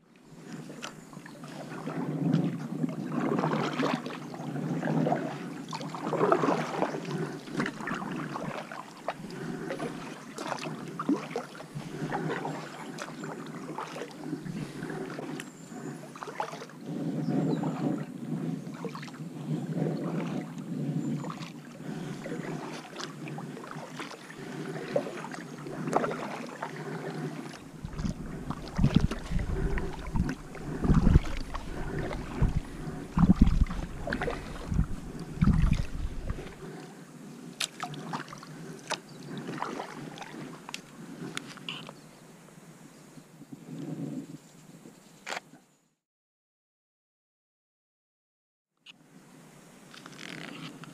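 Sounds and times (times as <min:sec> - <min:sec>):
kayak paddle strokes in water: 0:00.0 - 0:42.1, 0:49.8 - 0:50.9
water dripping off paddle blades: 0:00.2 - 0:42.0
wind rumbling on microphone: 0:00.4 - 0:16.1, 0:16.8 - 0:38.1, 0:39.1 - 0:45.3.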